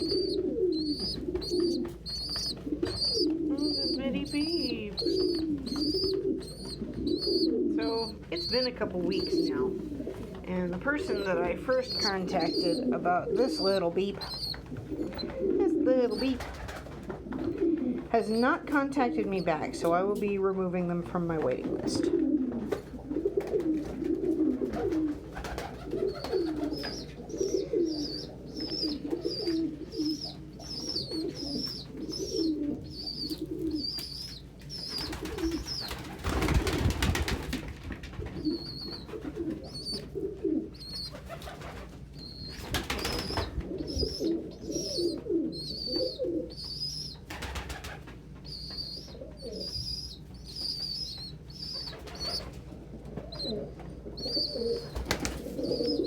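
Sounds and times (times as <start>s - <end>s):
pigeons cooing: 0.0s - 20.4s, 21.4s - 56.0s.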